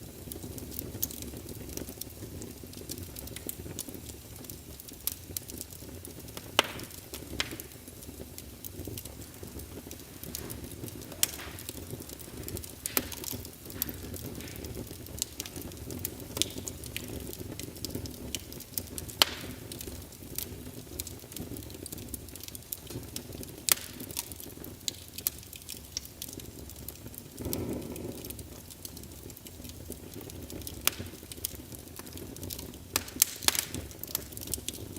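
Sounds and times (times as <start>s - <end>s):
fire crackling: 0.0s - 34.9s
fire popping: 0.0s - 34.9s
low fire rumble: 0.0s - 34.9s.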